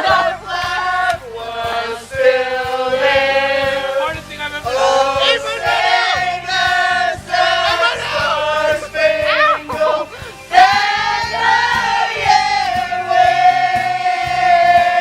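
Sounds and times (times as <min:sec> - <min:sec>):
steady music beat: 0:00.0 - 0:15.0
voices singing held notes: 0:00.0 - 0:15.0.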